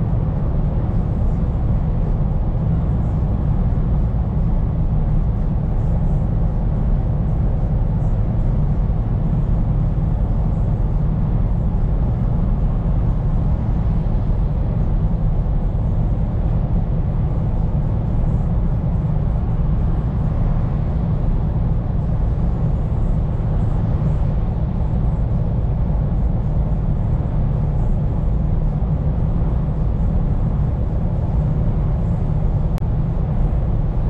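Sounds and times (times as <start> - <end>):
road noise: 0.0 - 34.0
truck diesel engine drone: 0.0 - 34.0.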